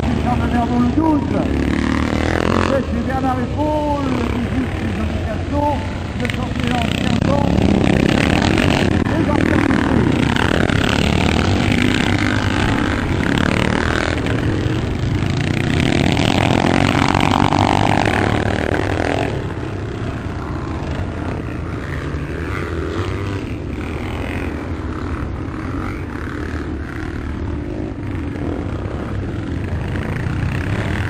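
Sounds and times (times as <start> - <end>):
motocross motorcycles revving: 0.0 - 31.0.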